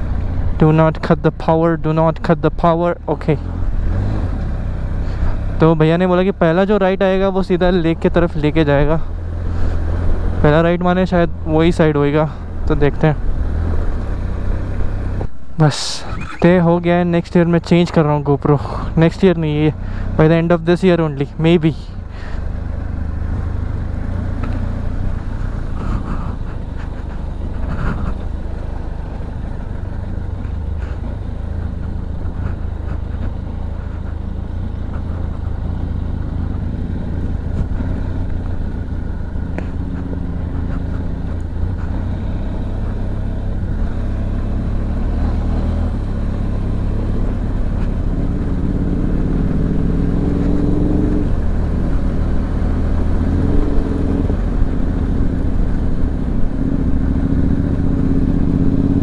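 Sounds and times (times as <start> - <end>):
motorcycle engine running: 0.0 - 17.9, 18.6 - 59.0.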